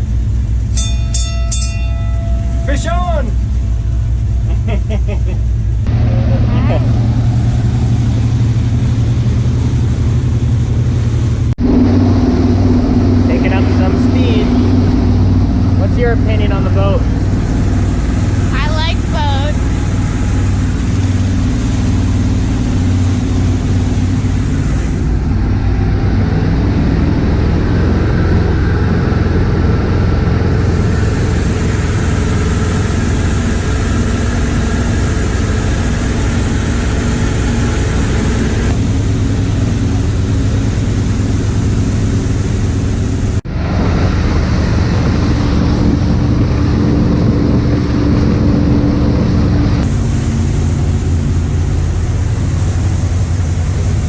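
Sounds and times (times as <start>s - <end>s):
boat engines running: 0.0s - 54.0s
rushing water noise: 5.5s - 54.0s.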